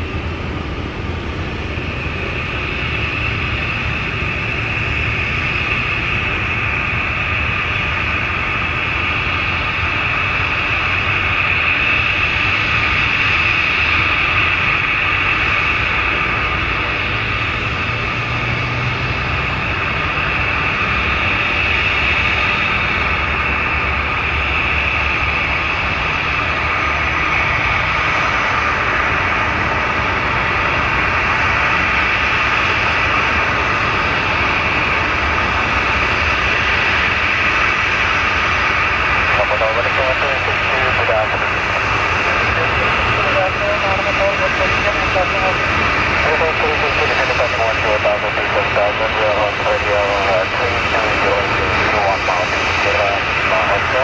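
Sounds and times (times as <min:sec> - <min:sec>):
high engine whine: 0:00.0 - 0:54.0
jet engines roaring: 0:00.0 - 0:54.0.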